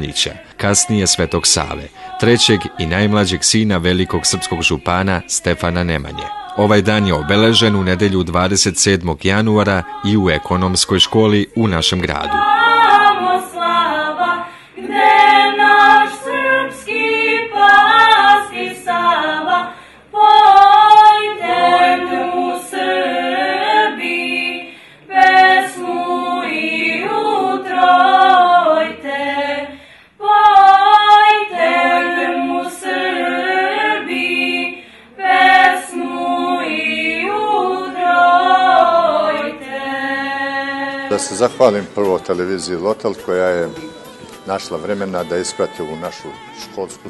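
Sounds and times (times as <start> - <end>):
women singing a cappella: 0.0 - 47.0.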